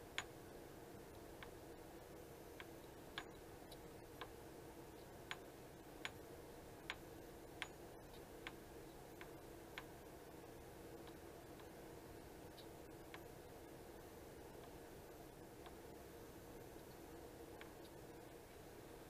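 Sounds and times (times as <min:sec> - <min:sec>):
quiet background hum: 0:00.0 - 0:19.0.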